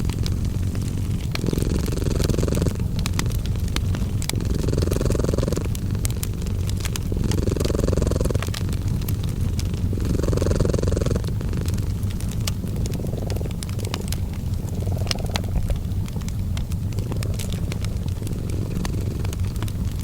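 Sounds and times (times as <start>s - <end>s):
cat purring: 0.0s - 20.0s
fireplace crackling: 0.0s - 20.0s.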